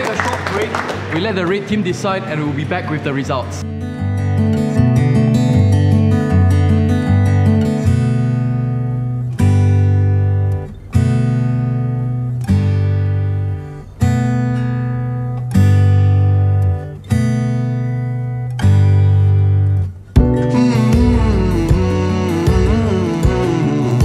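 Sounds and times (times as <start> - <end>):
acoustic guitar chords strummed: 3.6 - 24.0.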